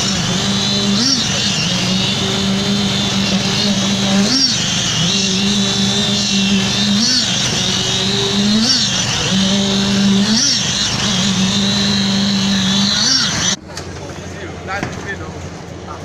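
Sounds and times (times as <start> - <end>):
concrete vibrator whining: 0.0 - 13.6.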